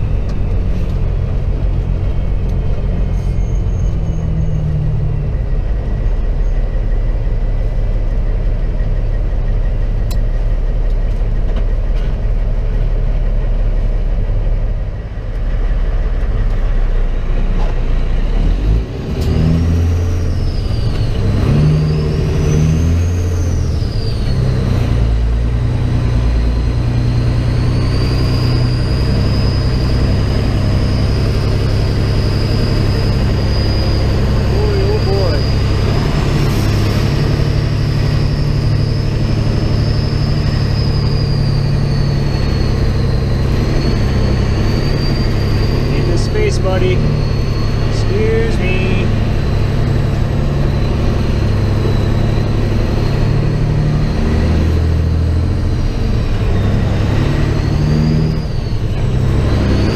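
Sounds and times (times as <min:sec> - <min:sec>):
diesel truck engine under load: 0:00.0 - 0:59.9
high engine whine: 0:00.0 - 0:59.9.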